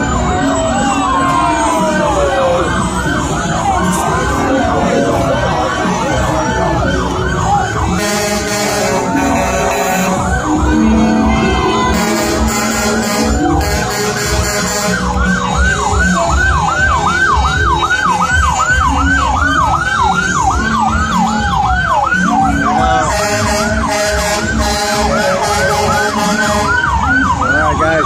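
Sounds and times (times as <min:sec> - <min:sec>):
emergency vehicle siren: 0:00.0 - 0:28.0.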